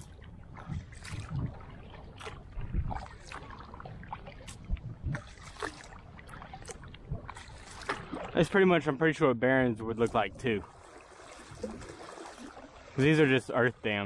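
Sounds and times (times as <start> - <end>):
paddle dipping into water: 0.0 - 9.0, 9.9 - 13.4
water drips and splashes: 0.0 - 9.0, 9.9 - 14.0.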